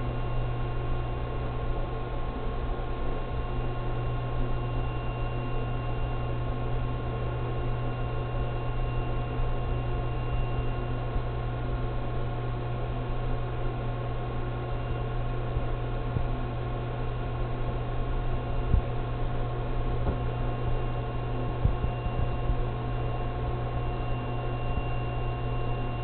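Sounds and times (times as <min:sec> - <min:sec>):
faint whining tones: 0:00.0 - 0:26.0
low electrical hum: 0:00.0 - 0:26.0.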